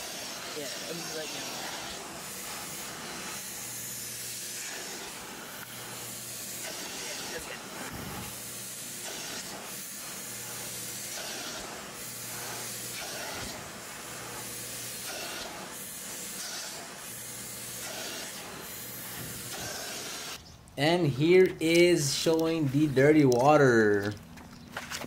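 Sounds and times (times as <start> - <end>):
carpet extractor suction hiss: 0.0 - 20.4.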